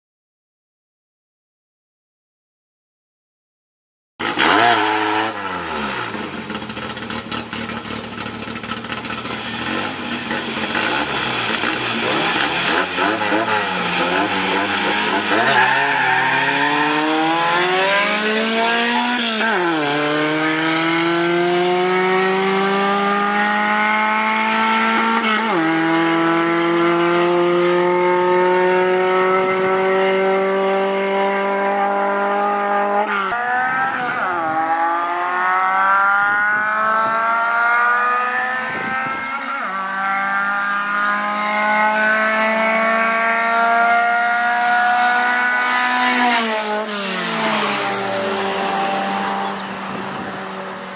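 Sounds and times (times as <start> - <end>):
car engine at full throttle: 4.2 - 50.9.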